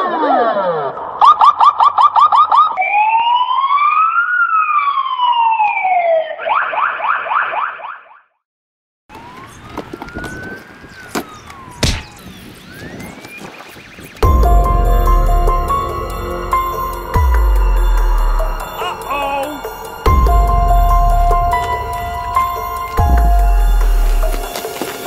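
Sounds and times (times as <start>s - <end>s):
electronic police siren: 1.2s - 8.4s, 9.1s - 25.0s.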